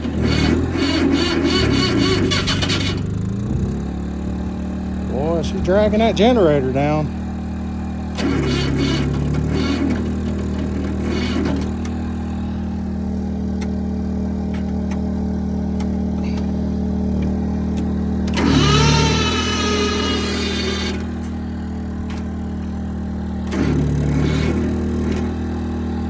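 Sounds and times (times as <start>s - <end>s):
portable generator running: 0.0s - 26.0s
starter motor cranking engine: 0.0s - 26.0s.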